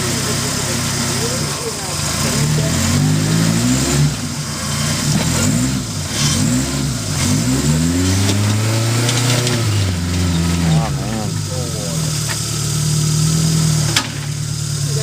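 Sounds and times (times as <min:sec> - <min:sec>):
engine revving in bursts: 0:00.0 - 0:15.0.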